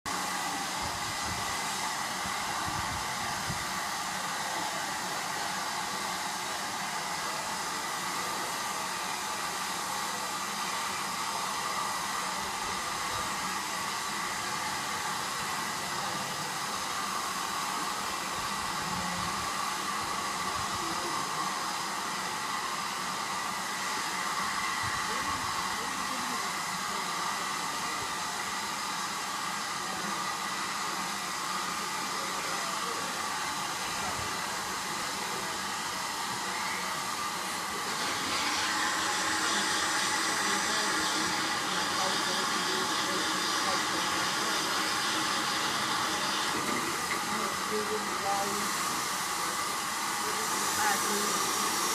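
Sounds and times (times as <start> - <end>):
steam locomotive hissing steam: 0.1 - 51.9.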